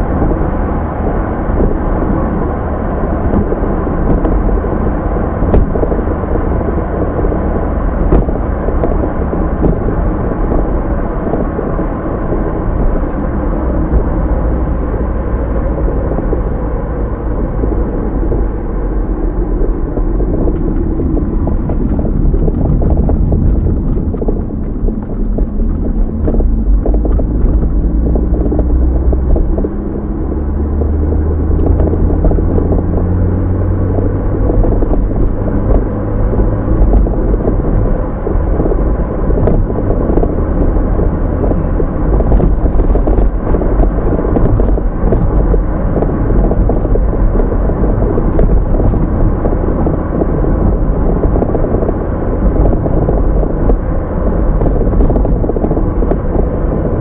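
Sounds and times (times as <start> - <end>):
tyre and engine rumble inside car: 0.0 - 57.0.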